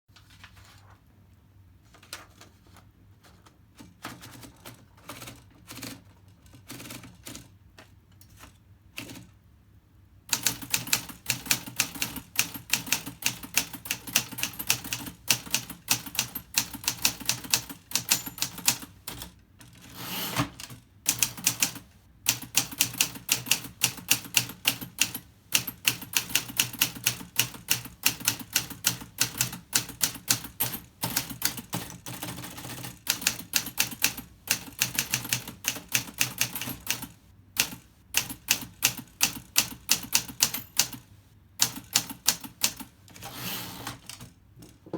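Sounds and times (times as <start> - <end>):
manual typewriter typing: 3.8 - 7.6, 8.3 - 9.4, 10.3 - 44.4
typewriter rattling: 3.8 - 7.6, 10.3 - 44.4.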